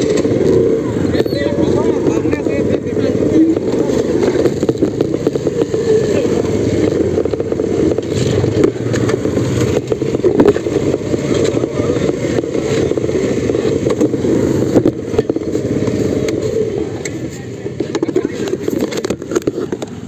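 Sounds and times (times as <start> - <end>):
rubbing and scraping on microphone: 0.0 - 20.0
vehicle engine running: 0.0 - 20.0.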